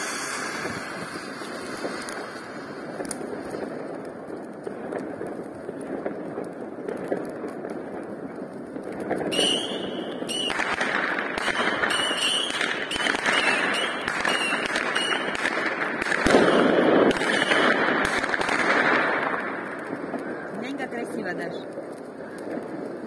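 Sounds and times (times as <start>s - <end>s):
firework fountain hissing and crackling: 0.0s - 23.0s.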